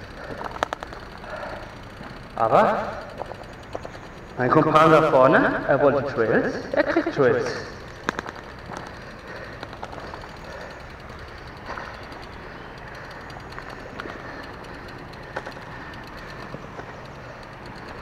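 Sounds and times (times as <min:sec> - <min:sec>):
bike clicks and knocks: 0:00.0 - 0:18.0.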